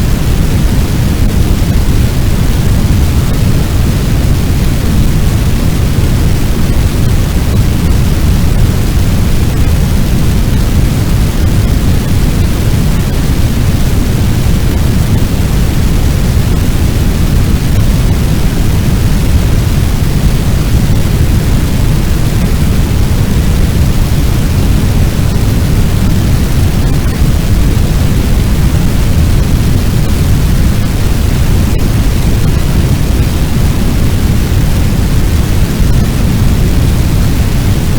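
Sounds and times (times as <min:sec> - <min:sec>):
deep rushing fire rumble: 0:00.0 - 0:37.9.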